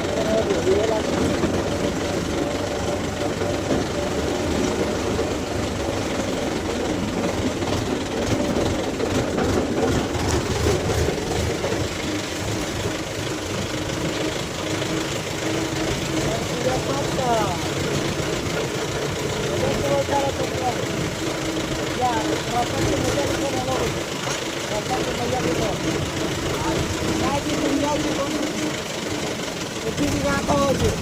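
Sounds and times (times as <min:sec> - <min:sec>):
clatter: 0:00.0 - 0:31.0
tractor diesel engine knocking: 0:00.0 - 0:31.0.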